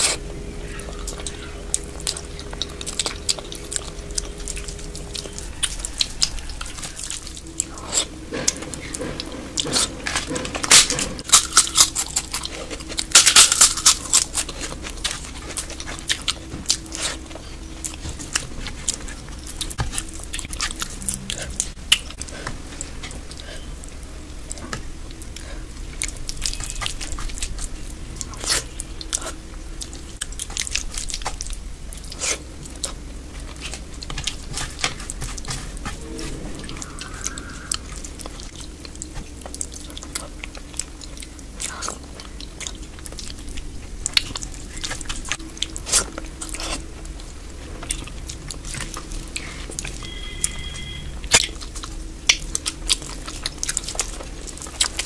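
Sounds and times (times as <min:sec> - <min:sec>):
chewing with crunches: 0:00.0 - 0:55.0.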